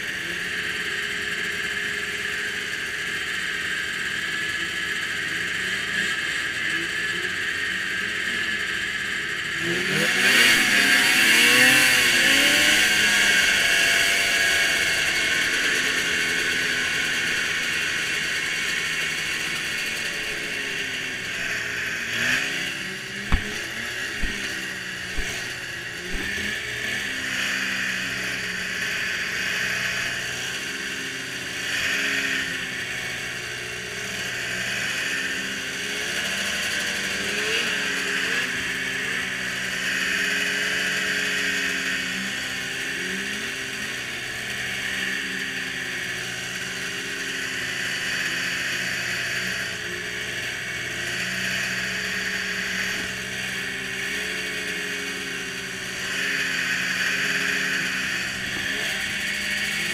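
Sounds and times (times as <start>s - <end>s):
snowmobile engines idling: 0.0s - 59.9s.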